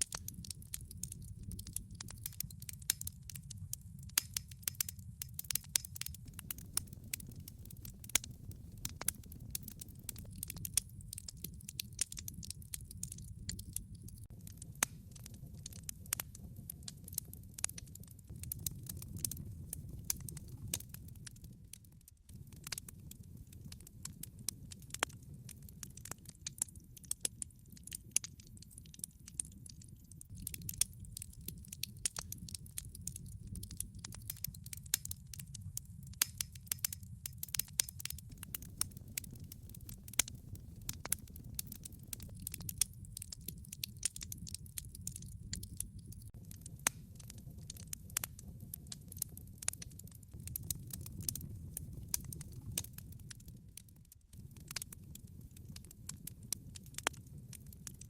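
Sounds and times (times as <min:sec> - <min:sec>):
fire rumbling: 0:00.0 - 0:58.0
log fire crackling: 0:00.0 - 0:58.0.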